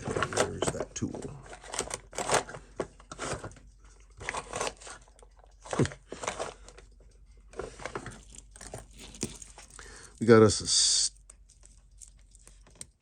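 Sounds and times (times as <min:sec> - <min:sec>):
tools clicking and rustling: 0:00.0 - 0:13.0.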